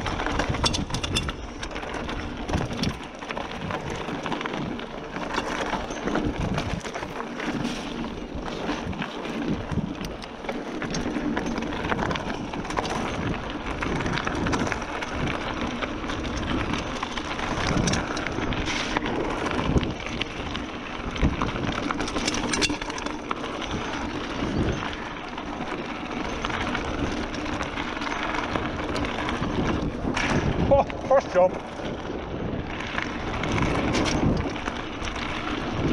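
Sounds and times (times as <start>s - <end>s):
bike frame and chain rattling: 0.0s - 35.9s
bike tyres rushing over dirt: 0.0s - 35.9s.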